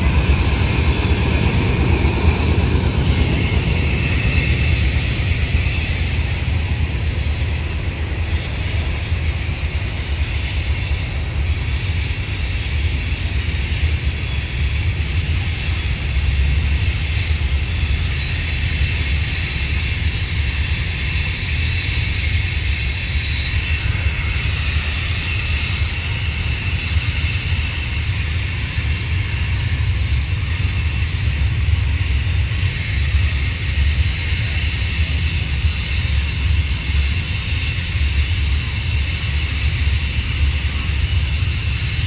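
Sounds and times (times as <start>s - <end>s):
train cars rolling past: 0.0s - 42.0s.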